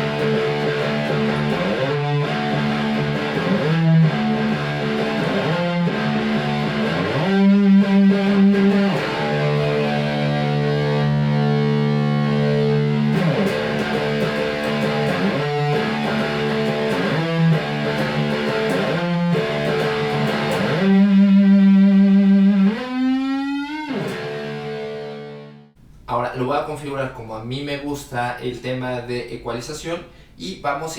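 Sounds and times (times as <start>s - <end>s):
distorted electric guitar chords: 0.0s - 25.8s.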